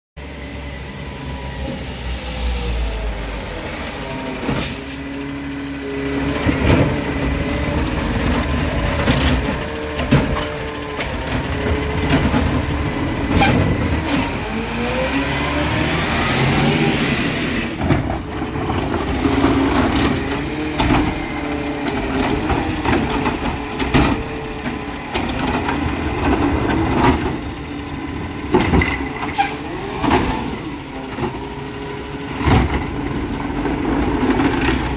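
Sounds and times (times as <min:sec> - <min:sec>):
garbage truck diesel engine: 0:00.2 - 0:34.9.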